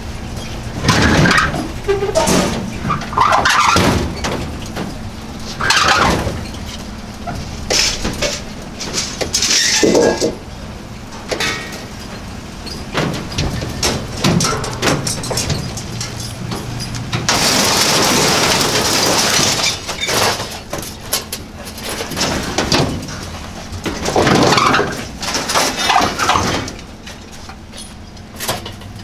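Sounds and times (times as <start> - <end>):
engine hum: 0.0 - 29.0
metal scraping and clattering: 0.3 - 29.0.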